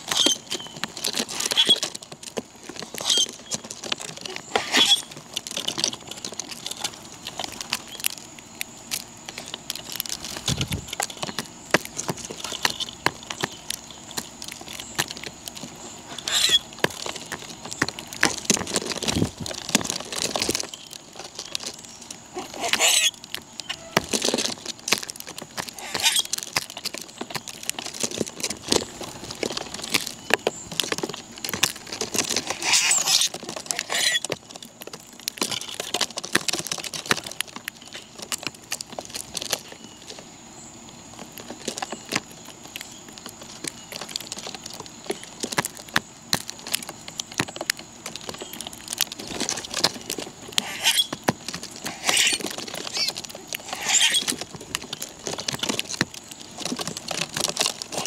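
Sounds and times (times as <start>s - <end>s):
birds pecking seed: 0.0s - 58.0s.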